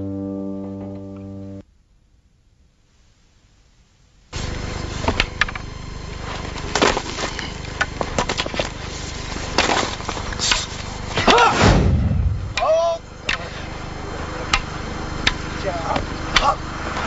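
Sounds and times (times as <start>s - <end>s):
steady background noise: 0.8s - 17.0s.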